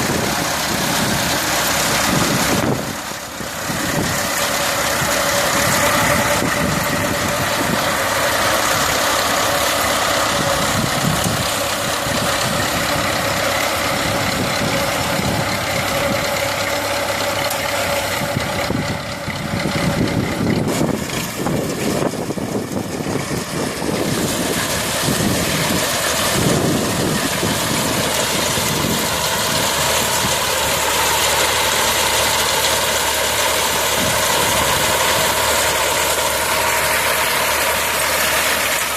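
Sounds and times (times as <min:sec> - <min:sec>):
steady whine: 0:00.0 - 0:38.9
tractor engine running: 0:00.0 - 0:38.9.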